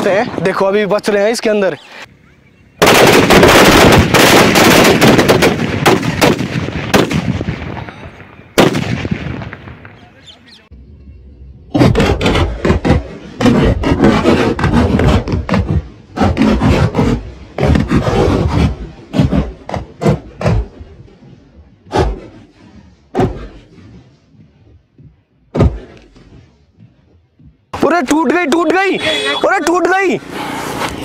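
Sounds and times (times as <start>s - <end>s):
firecrackers banging: 2.8s - 10.7s, 11.7s - 31.0s.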